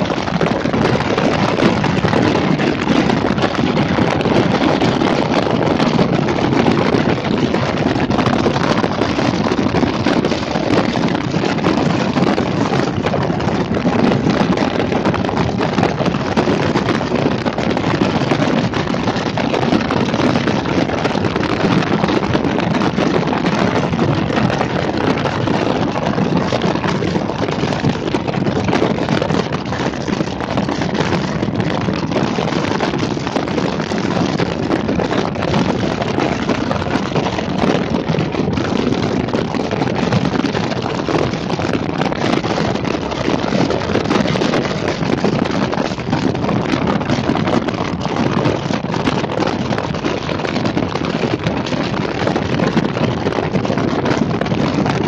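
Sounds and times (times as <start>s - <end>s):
moving vehicle running noise: 0.0s - 55.0s
wind rushing over microphone: 0.0s - 55.0s.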